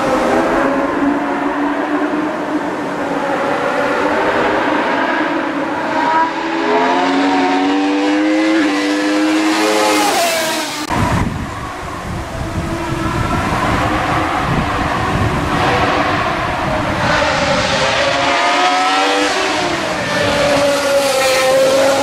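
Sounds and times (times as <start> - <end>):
race car engine accelerating: 0.0 - 22.0.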